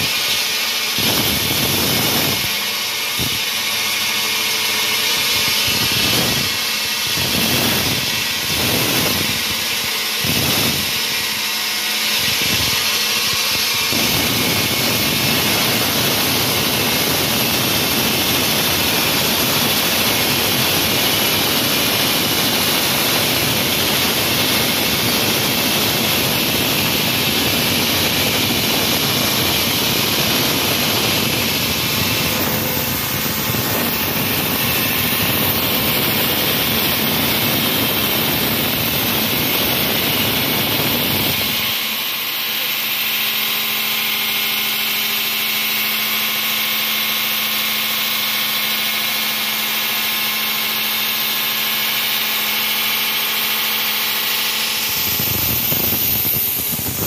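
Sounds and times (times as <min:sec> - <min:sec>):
wall saw running: 0:00.0 - 0:57.0.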